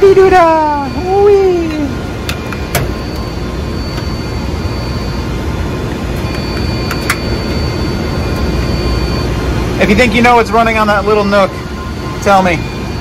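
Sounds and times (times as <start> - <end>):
faint high whine: 0.0 - 13.0
server cooling fans roaring: 0.0 - 13.0.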